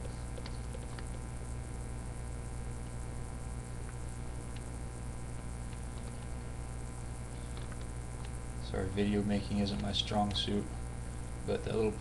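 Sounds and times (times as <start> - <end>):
background hiss: 0.0 - 12.0
steady low hum: 0.0 - 12.0.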